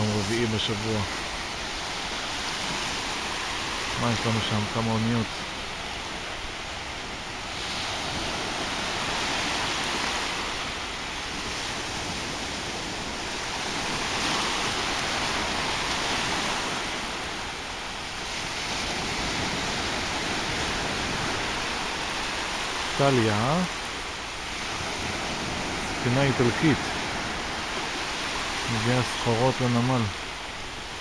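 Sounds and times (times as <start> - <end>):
waves washing on a beach: 0.0 - 31.0.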